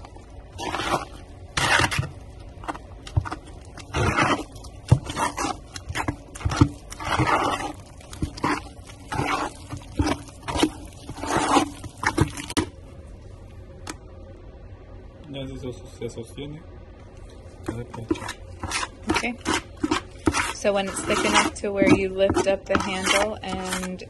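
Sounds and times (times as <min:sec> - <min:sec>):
grout mixed in a bucket: 0:00.0 - 0:12.8, 0:17.5 - 0:24.0.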